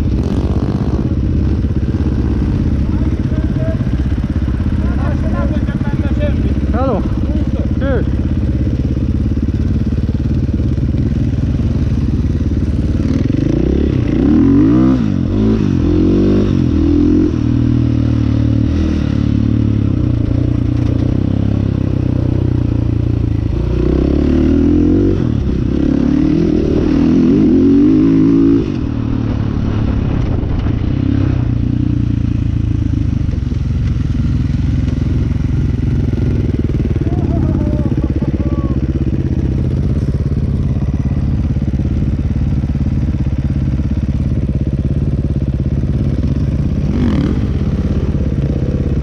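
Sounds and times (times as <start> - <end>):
dirt bike engine revving: 0.0 - 32.9, 34.1 - 49.0.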